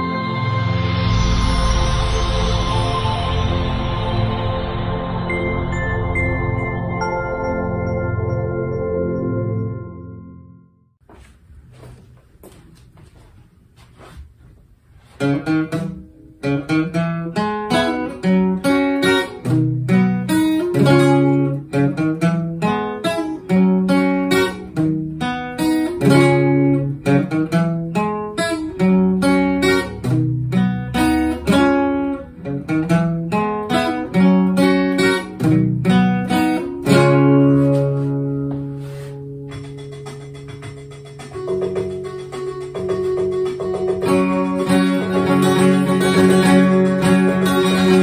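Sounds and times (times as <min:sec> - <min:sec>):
acoustic guitar strumming: 0:00.0 - 0:10.6, 0:15.0 - 0:48.0.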